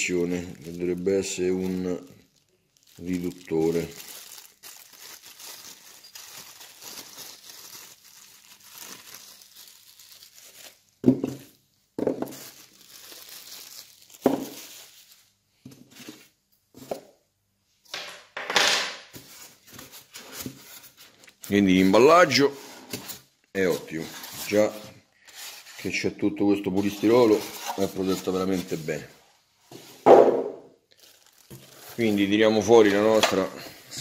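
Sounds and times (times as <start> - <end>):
plastic bag crinkling: 0.0 - 15.4, 19.1 - 29.3, 30.8 - 34.0.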